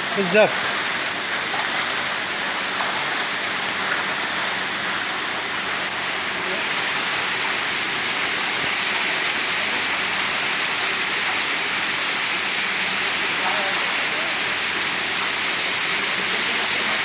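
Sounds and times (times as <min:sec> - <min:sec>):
fish splashing and thrashing in water: 0:00.6 - 0:16.2.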